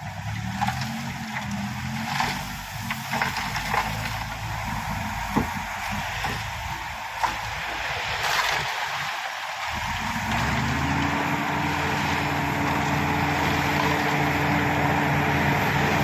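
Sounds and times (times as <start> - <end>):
bulldozer diesel engine running: 0.0 - 9.0, 9.6 - 16.0
gravel scraping: 0.0 - 16.0.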